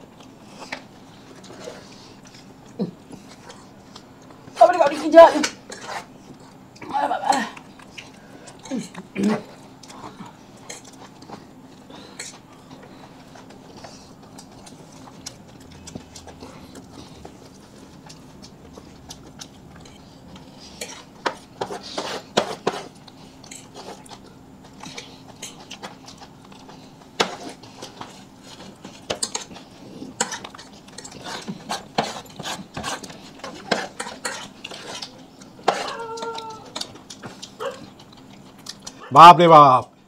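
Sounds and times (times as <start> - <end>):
faint steady hum: 0.0 - 40.0
chewing: 0.1 - 4.6, 7.5 - 39.1.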